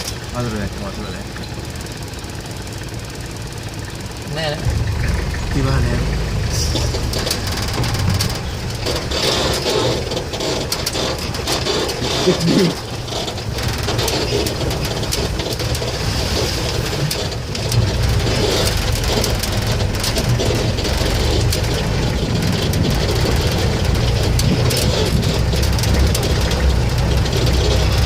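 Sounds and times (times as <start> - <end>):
jeep engine running: 0.0 - 28.0.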